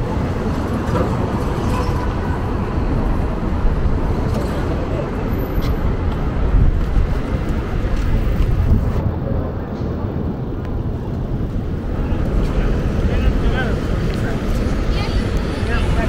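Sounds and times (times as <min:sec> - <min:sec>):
passers-by talking: 0:00.0 - 0:16.0
street traffic noise: 0:00.0 - 0:16.0.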